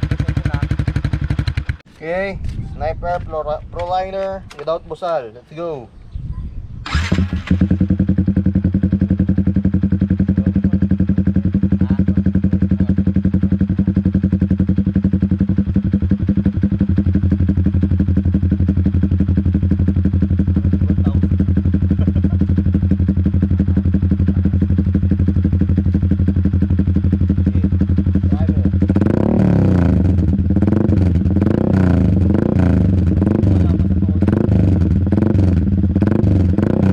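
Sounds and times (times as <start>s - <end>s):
motorcycle engine idling: 0.0s - 1.9s, 6.9s - 36.9s.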